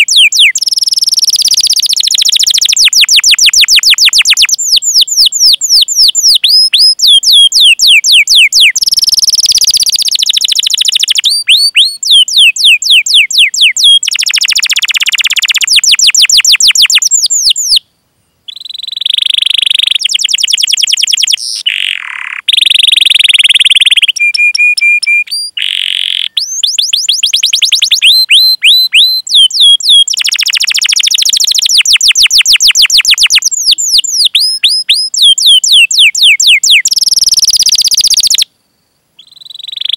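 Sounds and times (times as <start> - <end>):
canary singing: 0.0 - 17.9, 18.5 - 38.5, 39.2 - 39.9.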